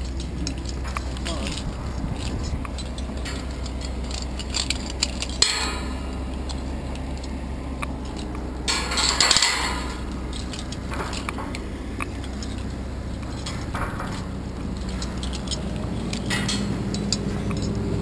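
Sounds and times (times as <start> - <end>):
metal clinking and clanks: 0.0 - 18.0.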